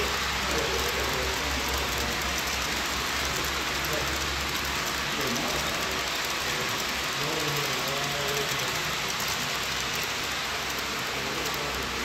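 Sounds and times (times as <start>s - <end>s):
faint voices: 0.0s - 12.0s
model train rolling hiss: 0.0s - 12.0s.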